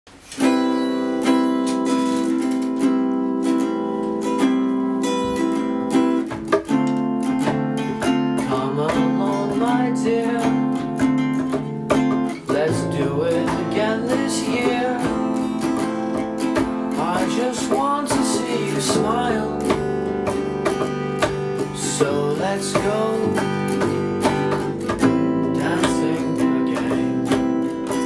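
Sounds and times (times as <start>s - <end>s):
acoustic guitar playing: 0.1s - 28.0s.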